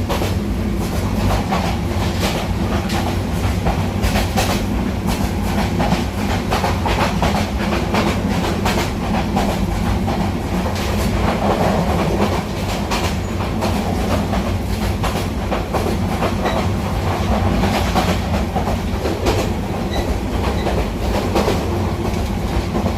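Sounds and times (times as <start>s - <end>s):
train rumbling on tracks: 0.0s - 22.9s.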